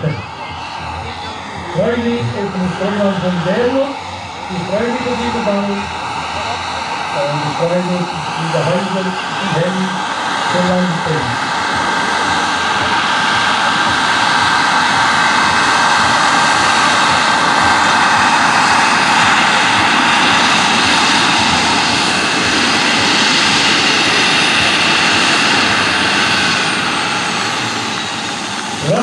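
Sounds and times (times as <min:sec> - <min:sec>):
model helicopter turbine whine: 0:00.0 - 0:29.0.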